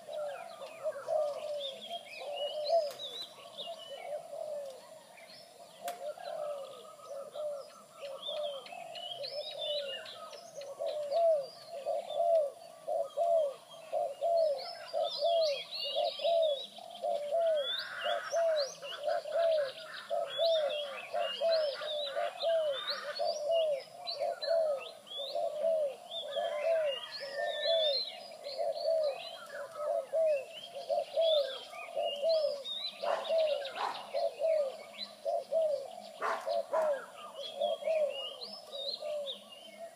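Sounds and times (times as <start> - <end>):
bird cooing: 0.0 - 39.9
birds chirping: 0.0 - 39.9.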